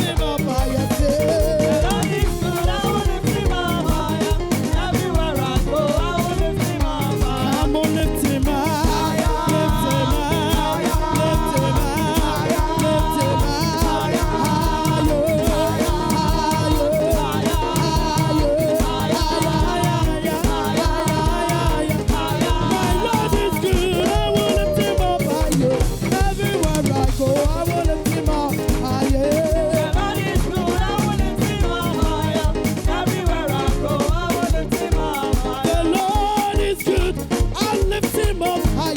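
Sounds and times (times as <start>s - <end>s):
drum kit fast beat: 0.0s - 38.9s
other instruments: 0.0s - 38.9s
person singing: 0.0s - 38.9s.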